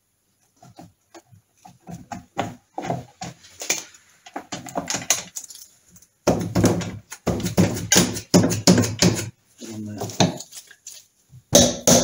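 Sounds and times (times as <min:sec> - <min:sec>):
rustling and knocking: 0:00.5 - 0:12.0.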